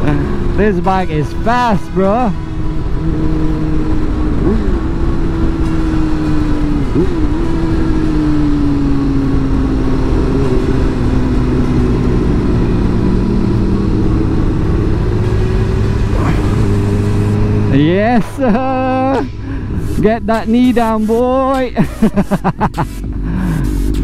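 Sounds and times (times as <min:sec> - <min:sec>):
motorcycle engine running: 0:00.0 - 0:24.0
wind noise: 0:02.4 - 0:21.7.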